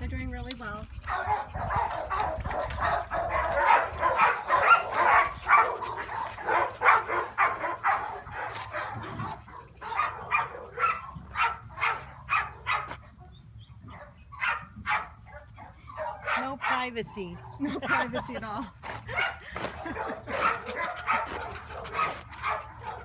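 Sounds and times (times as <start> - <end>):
dog barking: 1.1 - 13.2, 13.9 - 23.0.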